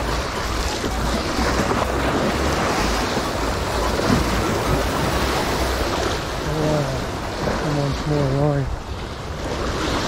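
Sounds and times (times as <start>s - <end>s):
waves splashing over rocks: 0.0s - 10.0s.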